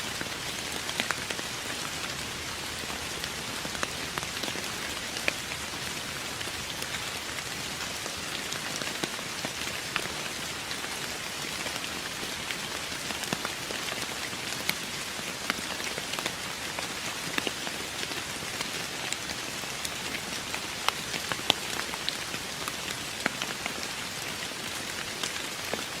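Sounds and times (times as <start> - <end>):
steady rain hiss: 0.0 - 26.0
raindrops ticking on a surface: 0.1 - 26.0.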